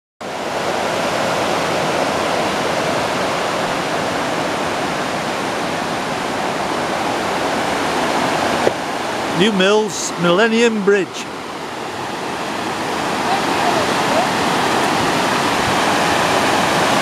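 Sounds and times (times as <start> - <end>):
river water pouring over weir: 0.2 - 17.0.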